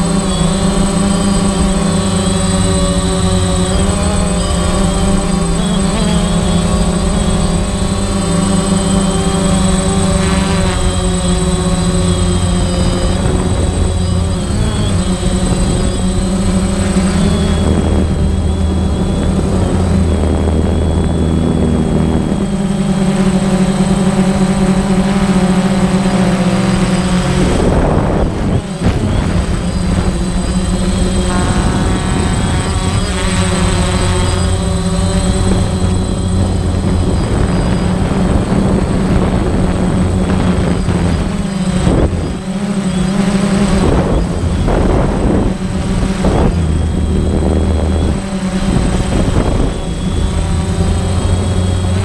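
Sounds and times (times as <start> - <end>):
drone propellers buzzing: 0.0 - 52.0.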